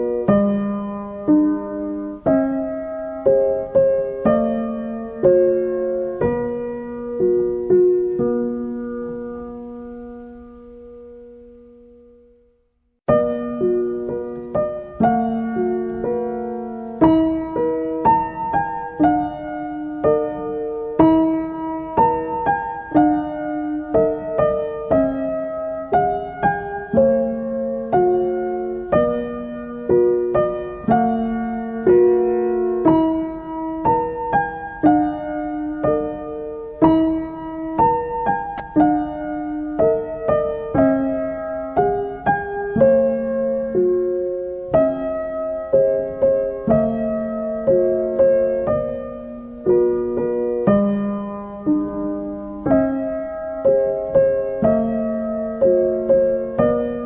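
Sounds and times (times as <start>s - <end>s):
gentle solo piano piece: 0.0s - 12.5s, 13.1s - 57.0s.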